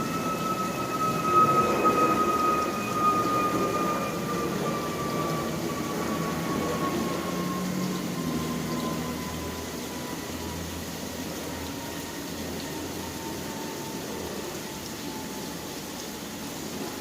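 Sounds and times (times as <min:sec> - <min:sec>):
high whine falling in pitch: 0:00.0 - 0:15.9
rain hiss: 0:00.0 - 0:17.0.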